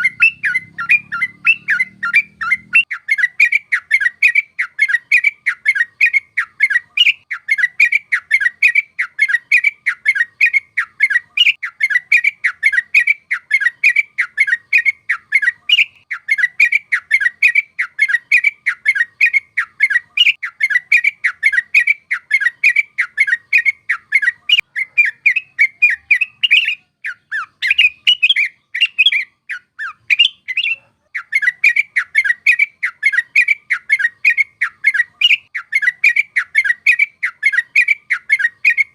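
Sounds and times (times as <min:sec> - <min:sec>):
bulbul chattering: 0:00.0 - 0:38.9.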